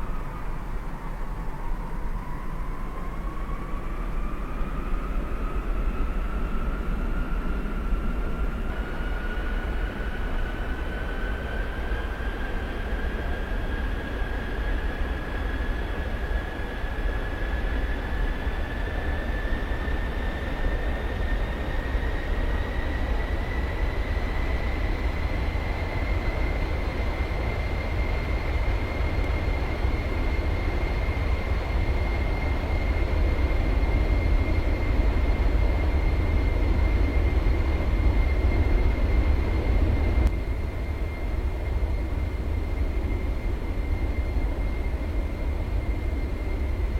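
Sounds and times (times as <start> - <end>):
aircraft engine rumble and whine: 0.0 - 46.9.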